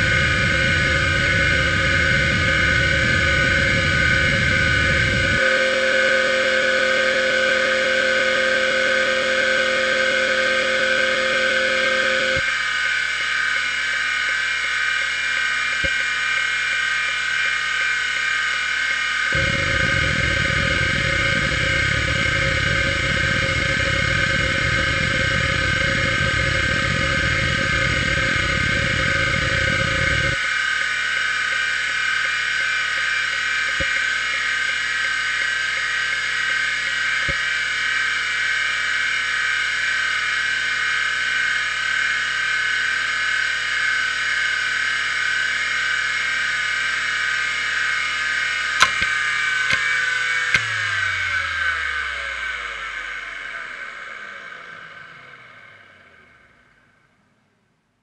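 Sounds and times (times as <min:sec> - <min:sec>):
hard drive seek chatter: 0:00.0 - 0:56.6
hard drive high whine: 0:00.0 - 0:58.0.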